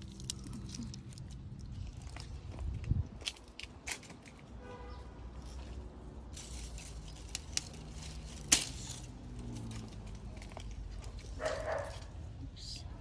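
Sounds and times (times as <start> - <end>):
rustling of netting and grapes: 0.0 - 4.4, 5.3 - 12.2.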